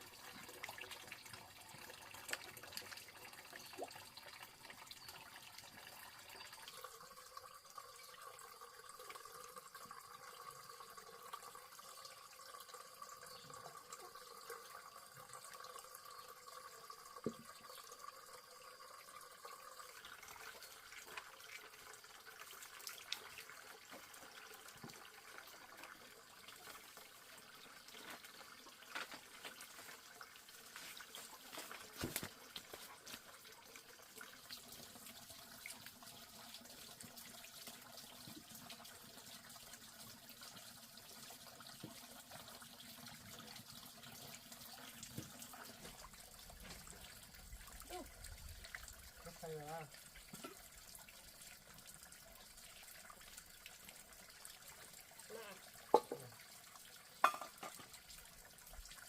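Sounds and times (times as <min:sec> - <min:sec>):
faint trickling water: 0:00.0 - 0:59.0.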